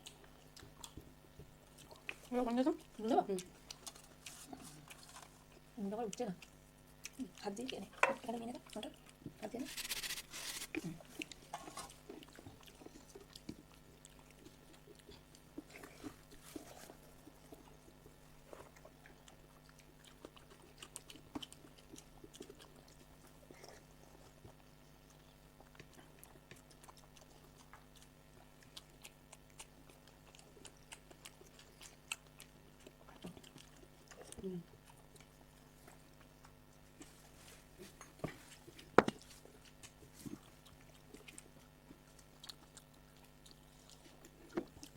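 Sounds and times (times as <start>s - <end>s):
person chewing food: 0.0s - 5.8s, 6.4s - 44.9s.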